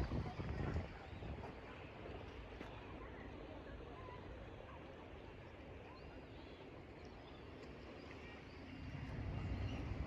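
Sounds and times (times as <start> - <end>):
faint outdoor ambience: 0.0 - 10.0.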